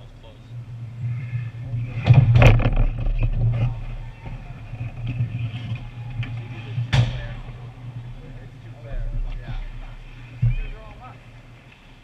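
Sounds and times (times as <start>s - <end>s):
low arena hum: 0.0s - 12.0s.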